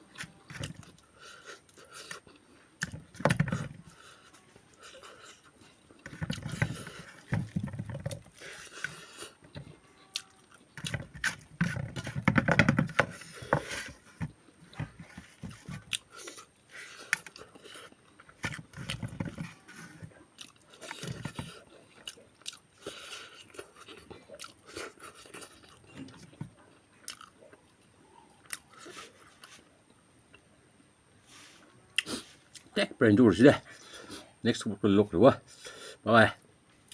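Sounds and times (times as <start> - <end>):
person chewing food: 0.0 - 30.5, 32.0 - 32.7.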